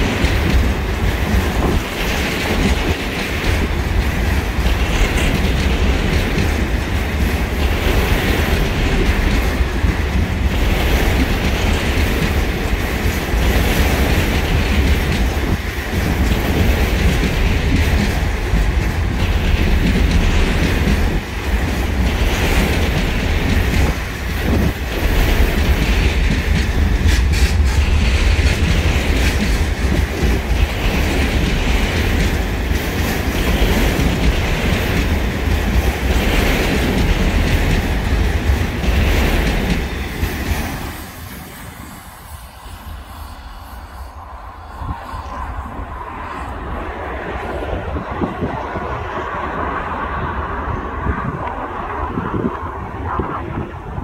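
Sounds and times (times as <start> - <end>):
steel wheels rumbling on rails: 0.0 - 54.0.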